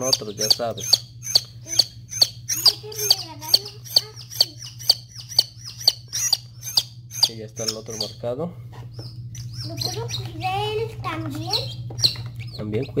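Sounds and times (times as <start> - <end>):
chick peeping loudly: 0.0 - 8.2, 8.9 - 10.4, 11.5 - 12.9.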